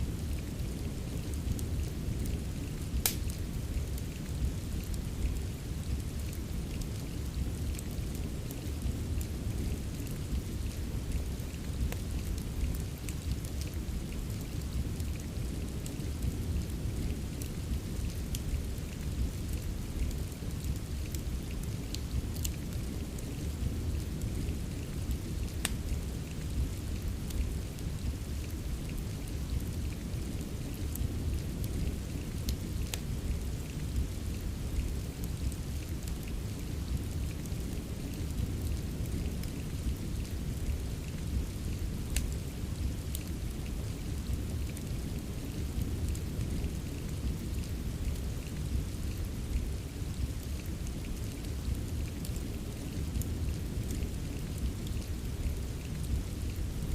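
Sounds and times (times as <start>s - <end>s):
steady rain: 0.0s - 56.9s
wood crackling and popping in fire: 0.1s - 56.9s.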